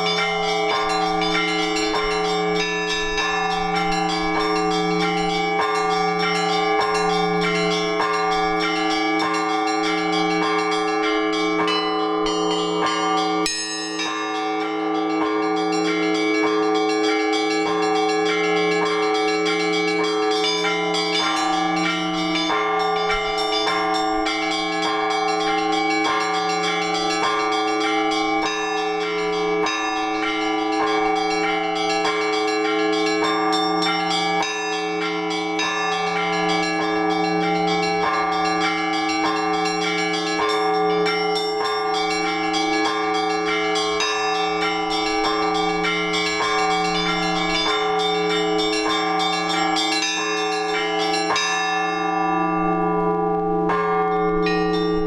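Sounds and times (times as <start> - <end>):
church bells ringing: 0.0 - 55.0
low bell steady beat: 0.0 - 55.0.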